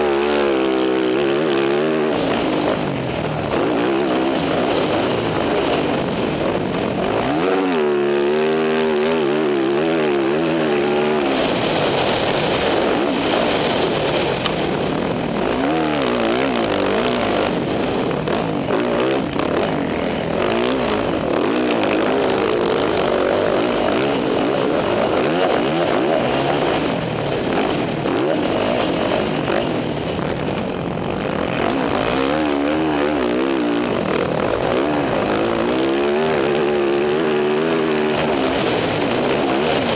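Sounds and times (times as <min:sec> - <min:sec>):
dirt bike engine revving: 0:00.0 - 0:39.9
wind rush: 0:00.0 - 0:39.9.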